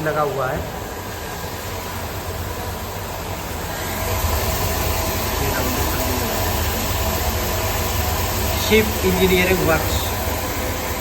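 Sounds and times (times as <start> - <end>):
parts cleaner humming: 0.0 - 11.0.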